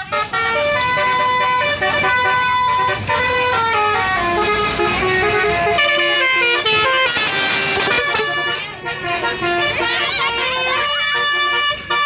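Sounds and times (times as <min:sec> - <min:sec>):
bus melody horn playing tune: 0:00.0 - 0:12.0.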